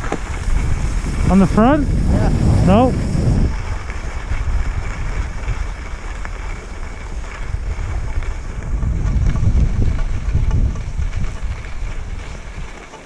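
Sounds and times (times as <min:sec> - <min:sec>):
skis sliding on snow: 0:00.0 - 0:13.0
wind buffeting microphone: 0:00.0 - 0:13.0.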